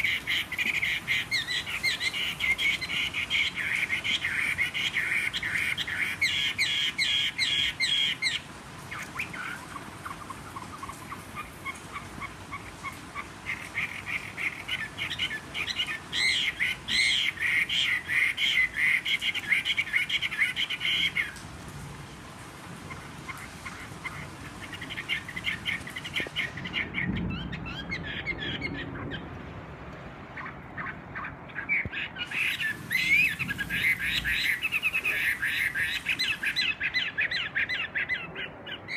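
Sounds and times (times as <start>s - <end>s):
bird singing rapid repeated notes: 0.0s - 21.4s, 22.9s - 29.3s, 30.4s - 38.9s.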